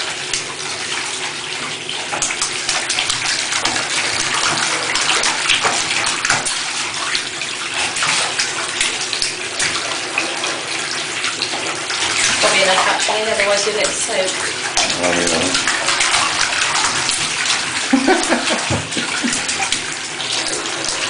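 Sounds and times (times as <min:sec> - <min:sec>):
tap water running into bathtub: 0:00.0 - 0:21.0.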